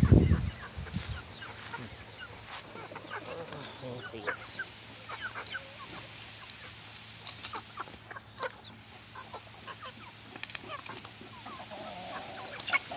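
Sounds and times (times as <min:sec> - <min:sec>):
chickens clucking: 0:00.0 - 0:12.9.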